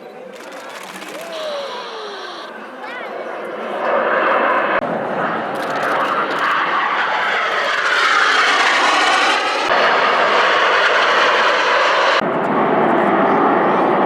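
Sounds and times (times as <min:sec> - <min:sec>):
jet aircraft roaring past: 0:00.3 - 0:14.0.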